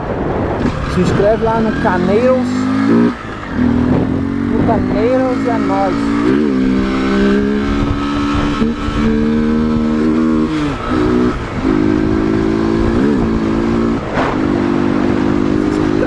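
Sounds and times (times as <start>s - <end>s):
motorcycle engine running: 0.4s - 16.0s.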